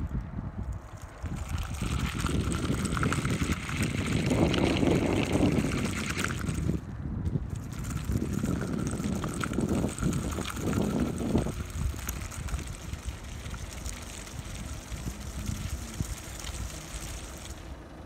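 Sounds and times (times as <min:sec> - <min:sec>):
rc car tyres churning through mud: 0:00.0 - 0:18.0.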